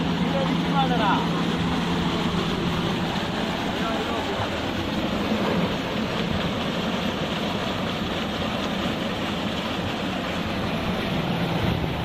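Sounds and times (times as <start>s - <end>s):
water gushing into tank: 0.0s - 12.0s.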